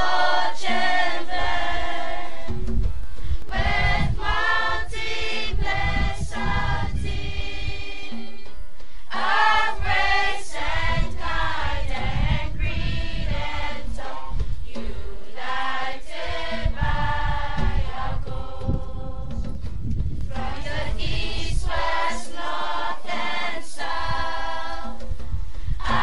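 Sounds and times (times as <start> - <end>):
choir singing: 0.0 - 2.8, 3.5 - 8.5, 9.1 - 19.4, 20.3 - 25.0, 25.8 - 26.0.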